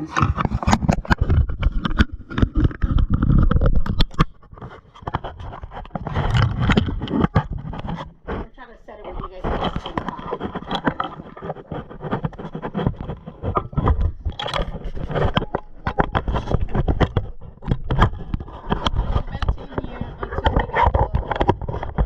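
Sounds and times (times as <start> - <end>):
kitchen items knocking and scraping: 0.0 - 22.0.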